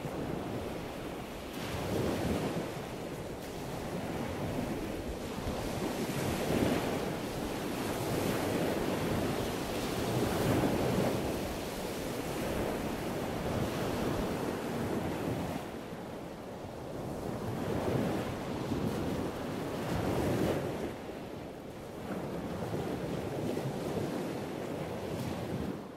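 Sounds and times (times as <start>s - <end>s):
wind rumbling on microphone: 0.0s - 25.9s.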